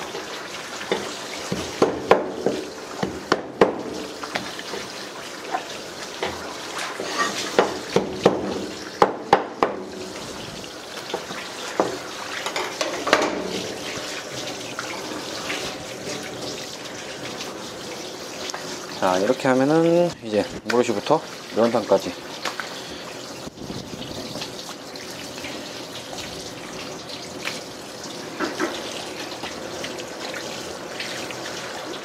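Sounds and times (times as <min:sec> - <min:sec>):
tap water running: 0:00.0 - 0:32.0.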